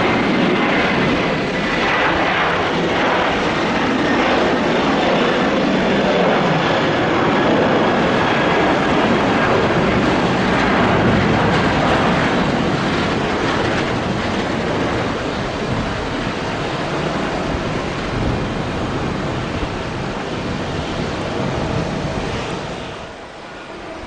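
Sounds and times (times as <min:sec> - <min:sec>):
jet airliner engines roaring: 0:00.0 - 0:24.0.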